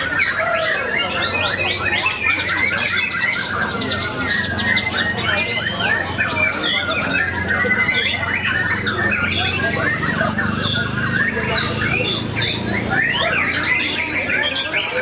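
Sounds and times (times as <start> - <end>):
songbirds chorus: 0.0 - 15.0.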